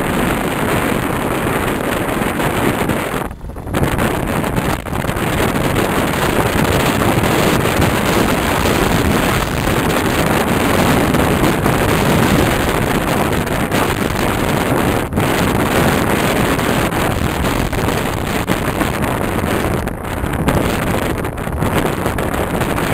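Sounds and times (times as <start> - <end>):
vehicle road and engine noise: 0.0 - 22.9
wind buffeting microphone: 0.0 - 22.9.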